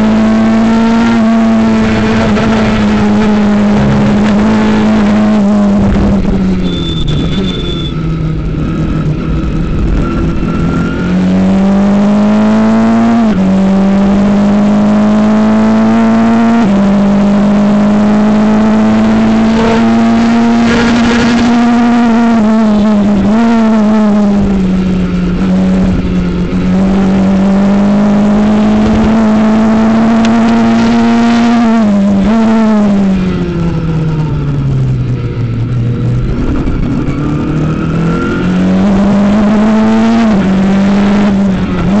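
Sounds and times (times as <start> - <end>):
racing car engine: 0.0 - 42.0.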